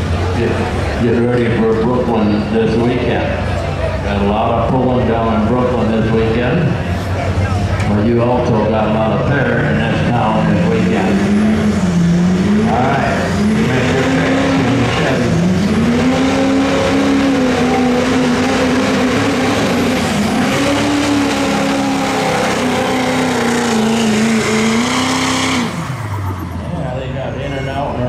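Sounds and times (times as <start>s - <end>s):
diesel truck engine at full throttle: 0.0s - 28.0s.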